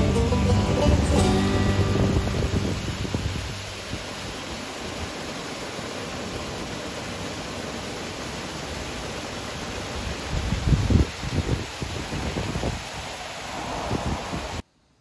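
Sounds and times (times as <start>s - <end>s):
water rushing along wooden flume: 0.0s - 14.6s.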